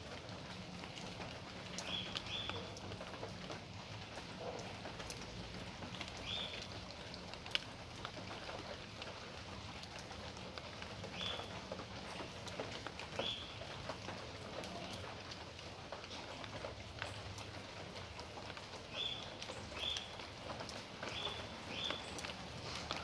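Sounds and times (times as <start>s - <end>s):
raindrops tapping: 0.0s - 23.0s
steady rain: 0.0s - 23.0s.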